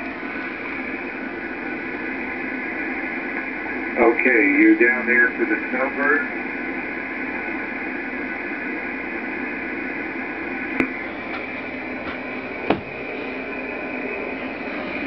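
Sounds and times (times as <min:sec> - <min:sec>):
radio speaker hissing: 0:00.0 - 0:15.0.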